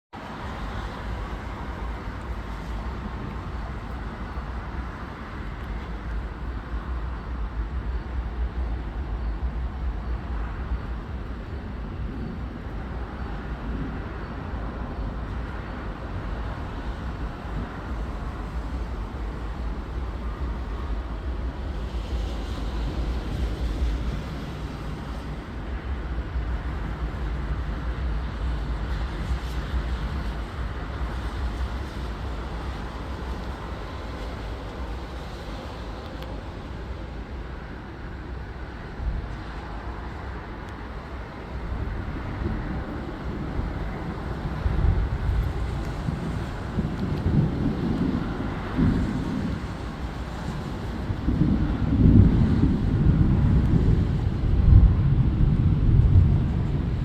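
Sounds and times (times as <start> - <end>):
deep low city rumble: 0.0 - 57.0.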